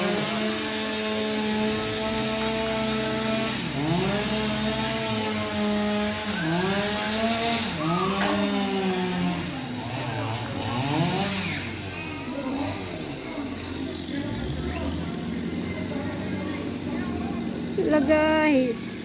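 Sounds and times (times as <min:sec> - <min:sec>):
chainsaw cutting tree trunk: 0:00.0 - 0:18.7.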